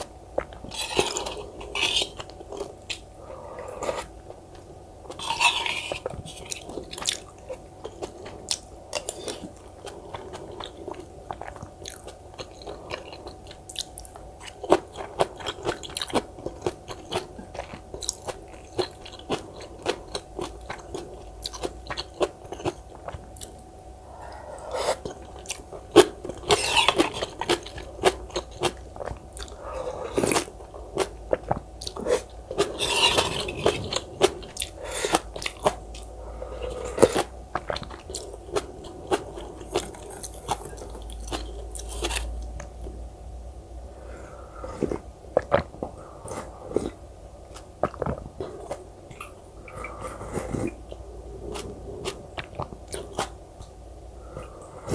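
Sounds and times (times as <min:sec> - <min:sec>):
wet chewing: 0:05.1 - 0:42.7, 0:44.6 - 0:54.9.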